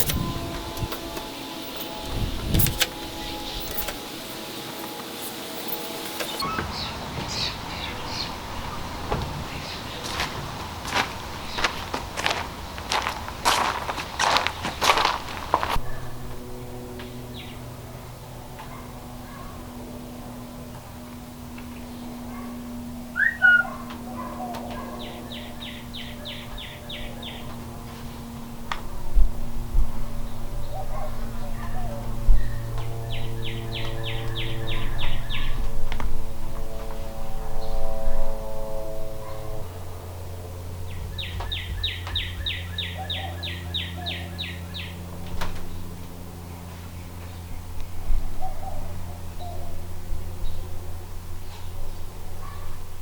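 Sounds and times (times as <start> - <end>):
birds chirping: 0.0 - 28.8, 30.1 - 52.8
steady low hum: 0.0 - 53.0.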